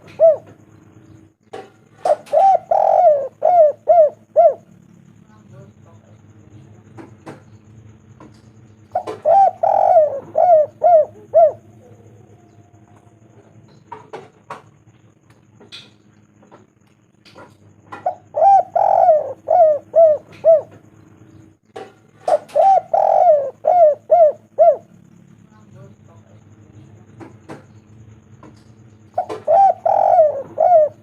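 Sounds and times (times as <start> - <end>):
dove cooing: 0.0 - 15.9, 17.4 - 25.6, 27.0 - 31.0.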